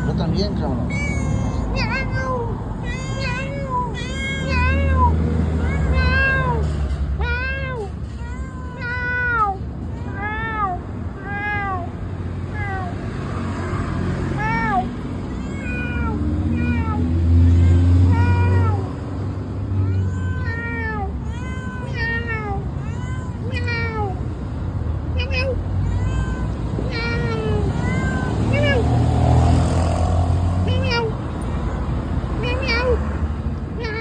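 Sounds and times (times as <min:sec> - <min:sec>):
cat meowing: 0:00.0 - 0:19.0, 0:19.6 - 0:24.5, 0:25.1 - 0:33.0, 0:33.7 - 0:34.0.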